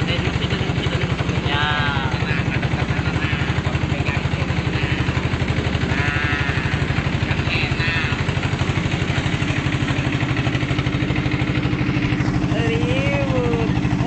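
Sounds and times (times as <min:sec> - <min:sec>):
boat engine pulsing: 0:00.0 - 0:14.0.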